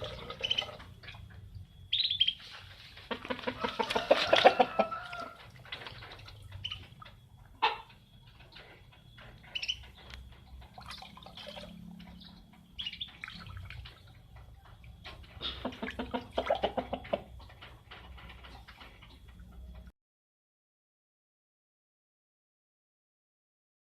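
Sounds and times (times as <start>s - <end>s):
chickens clucking: 0.0s - 19.9s.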